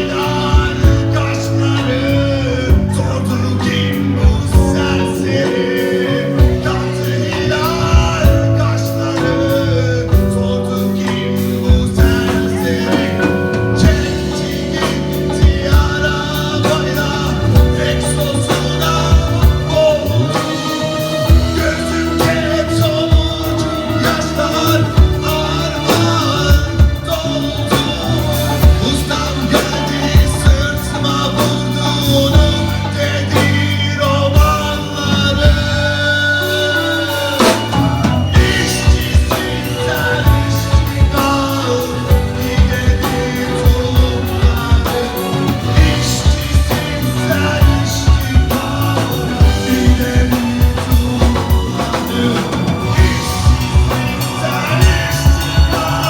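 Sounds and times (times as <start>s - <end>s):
drum kit beat: 0.0s - 56.0s
held instrumental notes: 0.0s - 56.0s
person singing: 0.0s - 56.0s.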